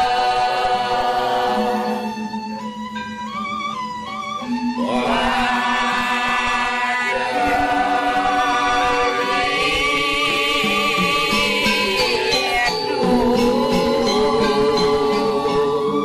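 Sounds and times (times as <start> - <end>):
voices chanting in long tones: 0.0 - 2.7, 4.8 - 16.0.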